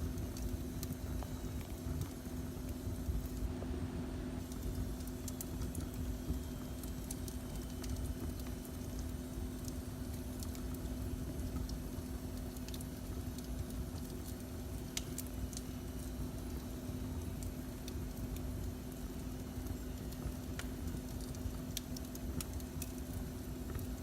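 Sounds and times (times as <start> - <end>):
constant hum: 0.0 - 24.0
wood fire crackling: 0.0 - 24.0.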